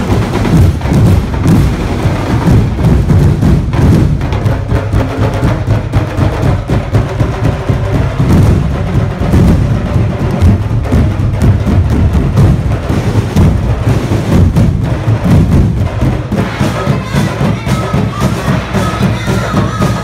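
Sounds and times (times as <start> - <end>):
bamboo percussion clacks: 0.0 - 20.0
drums beating driving rhythm: 0.0 - 20.0.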